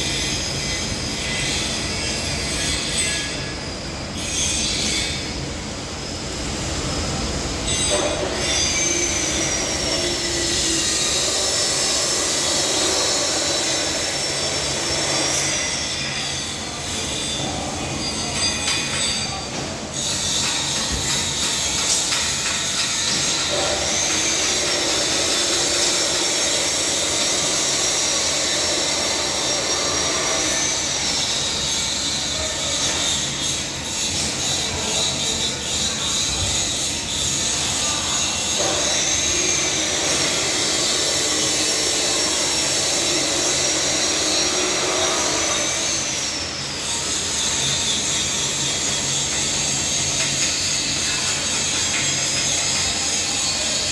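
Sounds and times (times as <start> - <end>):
high metallic squeal: 0.0 - 5.5, 7.6 - 53.9
heavy machinery running: 5.3 - 53.9.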